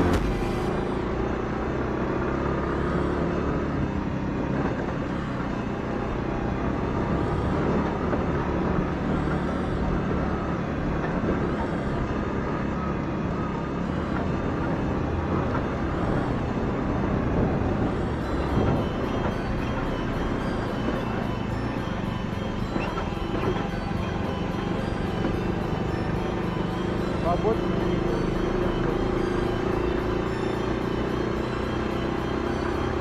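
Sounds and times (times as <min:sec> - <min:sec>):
moped engine running: 0:00.0 - 0:33.0.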